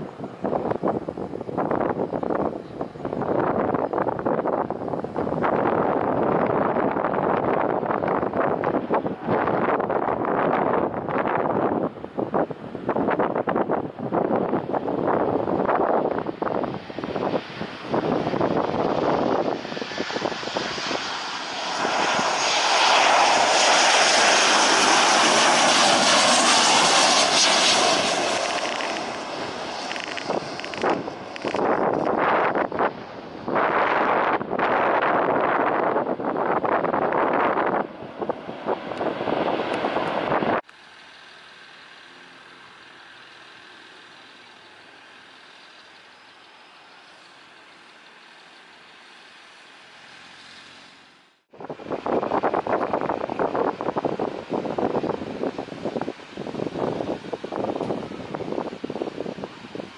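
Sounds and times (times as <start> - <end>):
wind on microphone: 0.0 - 40.7, 51.5 - 59.9
jet engines of passing airliner: 0.0 - 59.9.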